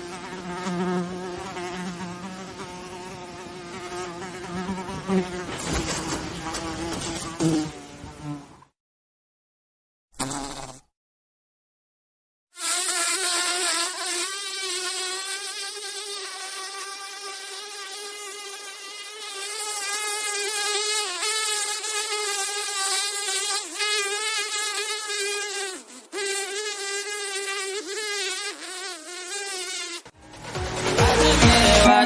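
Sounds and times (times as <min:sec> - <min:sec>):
house fly buzzing: 0:00.0 - 0:08.6, 0:10.2 - 0:10.9, 0:12.6 - 0:30.2.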